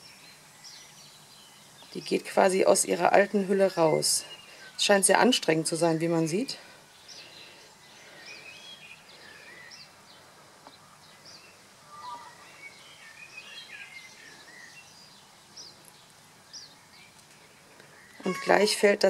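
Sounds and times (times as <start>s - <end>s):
low steady hiss: 0.0s - 19.0s
small birds chirping: 0.0s - 19.0s.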